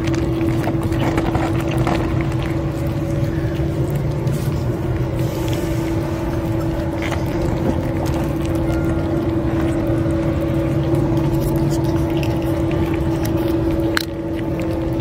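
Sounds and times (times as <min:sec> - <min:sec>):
cats eating from metal dish: 0:00.0 - 0:15.0
motor drone: 0:00.0 - 0:15.0.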